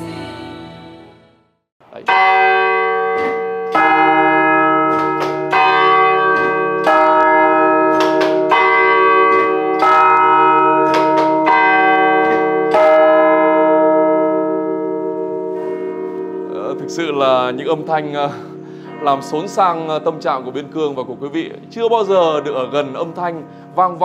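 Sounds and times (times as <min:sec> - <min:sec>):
church bells ringing: 0:01.8 - 0:24.0.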